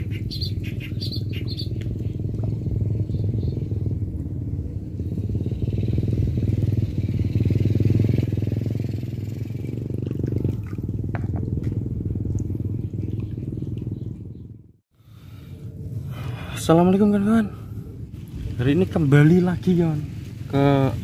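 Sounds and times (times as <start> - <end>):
small engine running: 0.0 - 14.4, 17.5 - 21.0.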